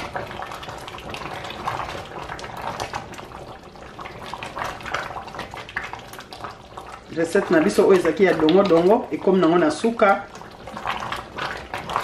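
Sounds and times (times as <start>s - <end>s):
stew sloshing and bubbling: 0.0s - 12.0s.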